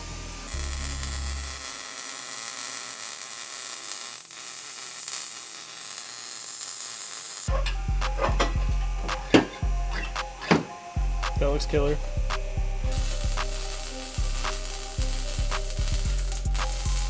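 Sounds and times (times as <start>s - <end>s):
welder arc crackling and hissing: 0.0s - 17.0s.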